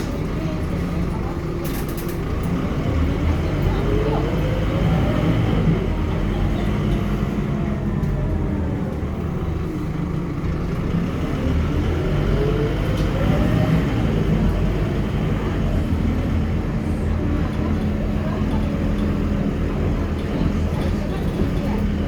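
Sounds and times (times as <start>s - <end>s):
bus engine running: 0.0s - 22.0s
engine whine: 0.0s - 22.0s.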